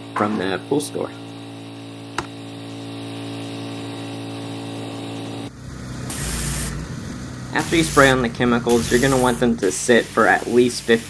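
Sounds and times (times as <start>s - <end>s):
pressure washer engine running: 0.0s - 11.0s
hissing spray: 1.7s - 11.0s.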